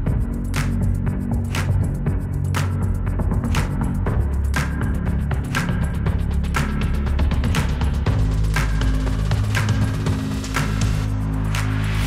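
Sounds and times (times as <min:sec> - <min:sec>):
sustained low music notes: 0:00.0 - 0:12.0.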